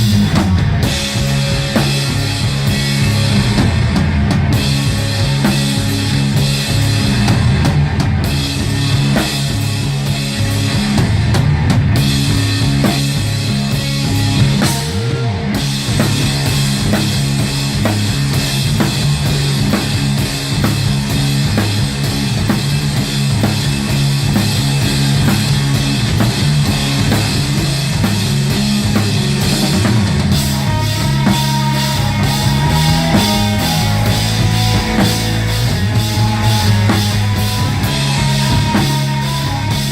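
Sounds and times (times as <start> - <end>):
drum kit beat: 0.0 - 39.9
heavy bass line: 0.0 - 39.9
live rock band: 0.0 - 39.9.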